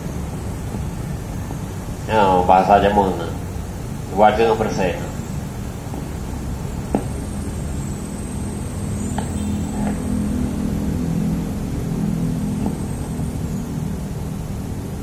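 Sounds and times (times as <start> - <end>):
vehicle engine humming past: 0.0 - 15.0.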